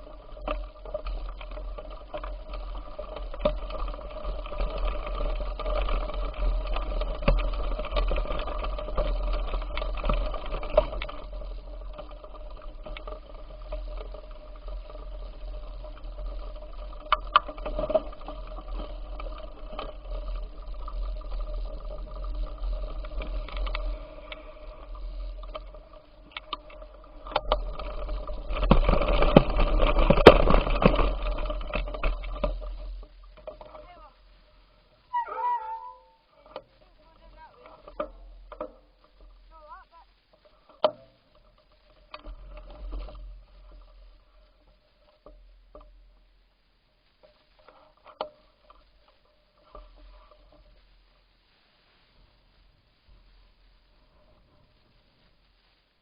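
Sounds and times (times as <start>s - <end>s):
bicycle clicks and knocks: 0.0s - 34.0s, 35.3s - 46.2s, 47.2s - 50.8s
bicycle rolling and rattling: 0.0s - 56.0s.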